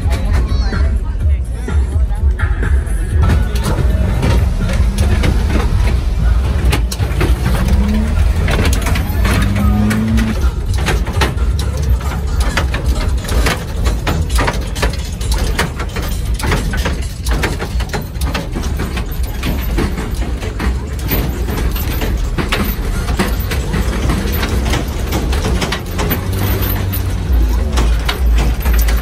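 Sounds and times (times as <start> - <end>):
crowd chatter: 0.0 - 29.0
truck engines rumbling: 0.0 - 29.0.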